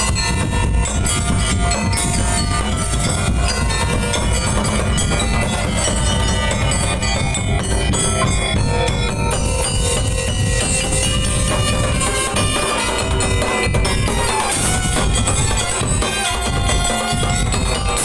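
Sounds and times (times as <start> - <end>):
percussion ensemble music: 0.0 - 18.0.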